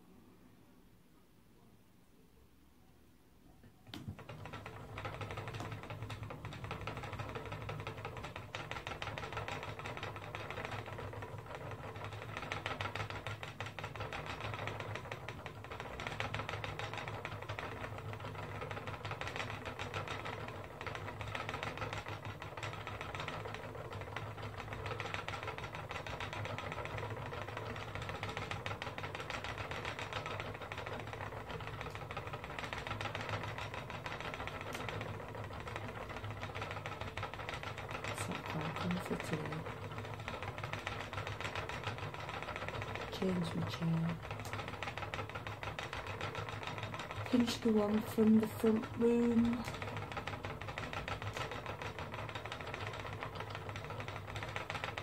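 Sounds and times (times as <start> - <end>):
spinning wheel clicking whirr: 3.8 - 55.0.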